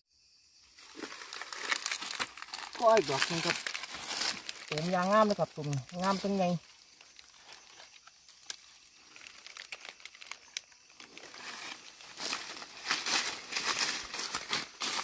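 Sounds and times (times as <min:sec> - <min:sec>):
footsteps crunching through dry leaves: 0:00.7 - 0:15.0
brushing through undergrowth: 0:00.8 - 0:15.0.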